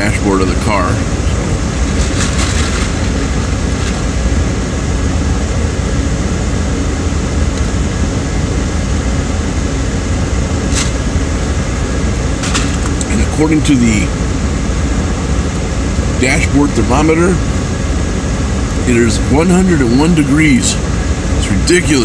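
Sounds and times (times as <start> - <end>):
air-conditioning blower: 0.0 - 22.0
car engine idling in cabin: 0.0 - 22.0.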